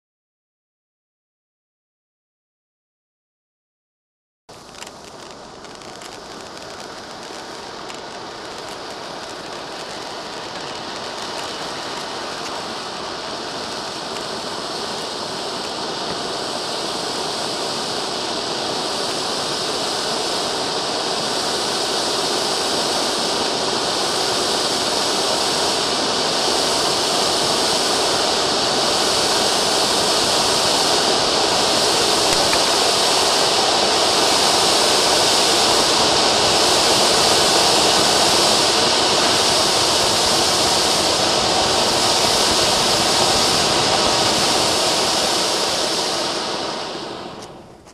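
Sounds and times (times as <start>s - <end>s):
firework fountains hissing: 4.5s - 47.9s.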